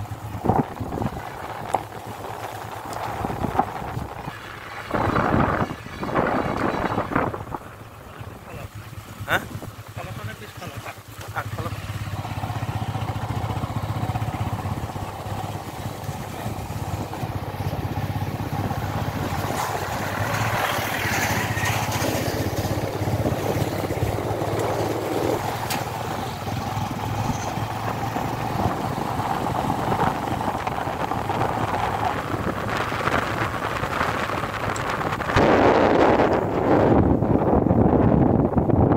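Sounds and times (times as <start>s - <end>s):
wind noise: 0.0s - 10.1s, 12.0s - 38.9s
motorcycle engine running: 0.0s - 38.9s
road noise: 0.0s - 38.9s.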